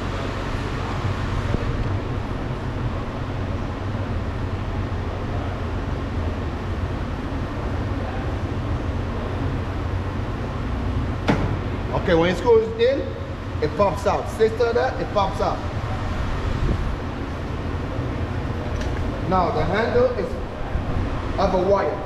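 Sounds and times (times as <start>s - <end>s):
steady low rumble with hiss: 0.0s - 22.0s.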